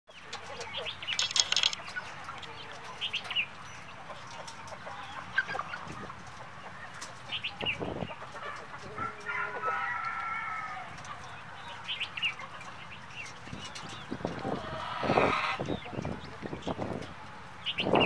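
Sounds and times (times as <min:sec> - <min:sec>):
hens clucking and squawking: 0:00.1 - 0:18.0.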